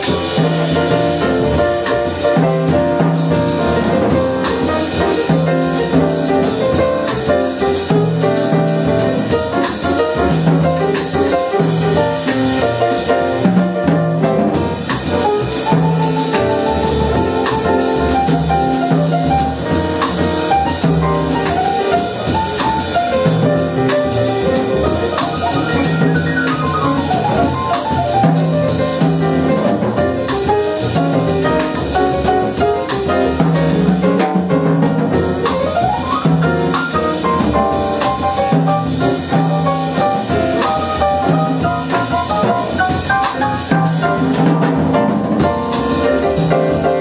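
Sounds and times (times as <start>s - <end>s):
drum kit with cymbals: 0.0s - 47.0s
jazz piano: 0.0s - 47.0s
pizzicato double bass: 0.0s - 47.0s.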